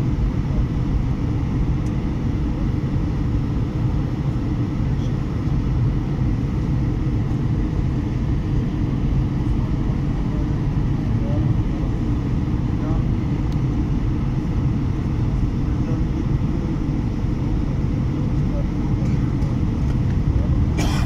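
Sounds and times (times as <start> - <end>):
jet engine roar in cabin: 0.0 - 21.0.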